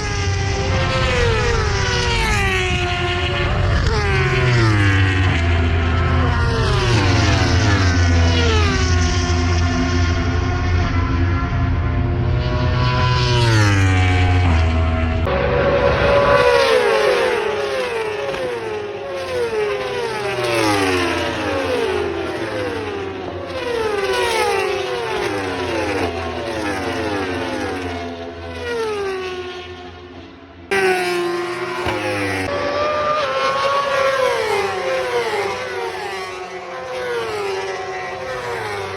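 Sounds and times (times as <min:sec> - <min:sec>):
racing motorcycles passing: 0:00.0 - 0:38.9.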